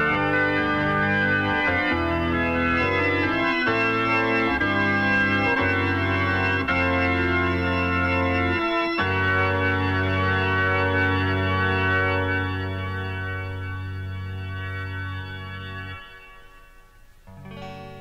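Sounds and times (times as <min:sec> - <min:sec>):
sustained organ chords: 0:00.0 - 0:18.0.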